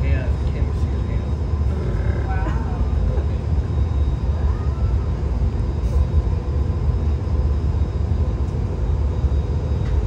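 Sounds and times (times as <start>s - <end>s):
faint hum: 0.0s - 10.0s
furnace burners roaring: 0.0s - 10.0s.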